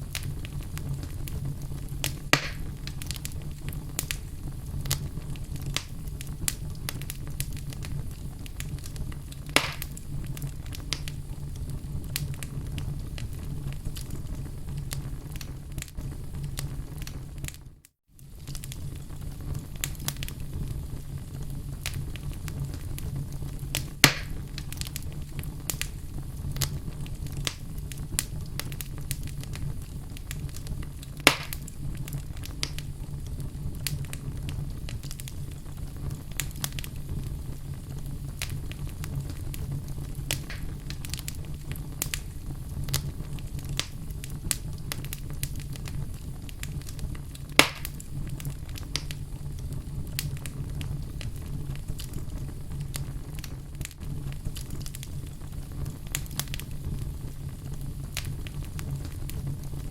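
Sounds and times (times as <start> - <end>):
fire popping: 0.0 - 59.9
wood fire crackling: 0.0 - 59.9.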